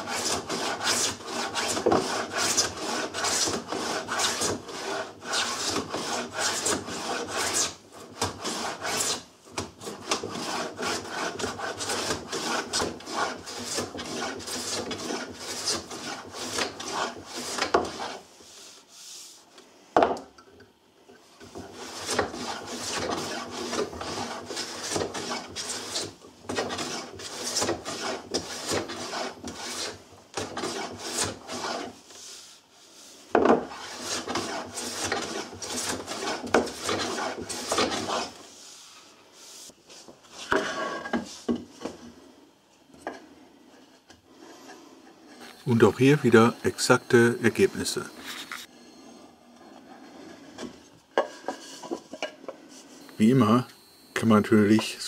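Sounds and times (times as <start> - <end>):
hand plane scraping wood: 0.0 - 19.3, 21.4 - 42.2, 43.1 - 46.5, 49.6 - 53.0.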